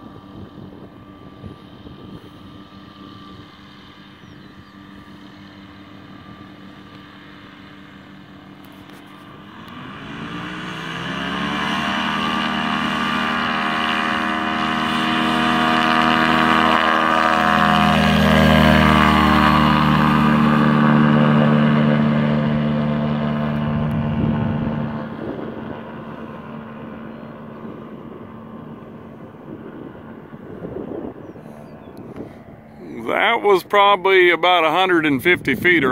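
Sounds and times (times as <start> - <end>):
light aircraft engine and propeller: 0.0 - 35.9.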